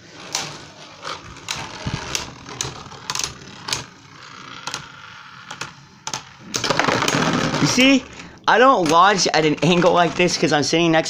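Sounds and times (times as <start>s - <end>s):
plastic spinning tops clacking: 0.1s - 10.5s.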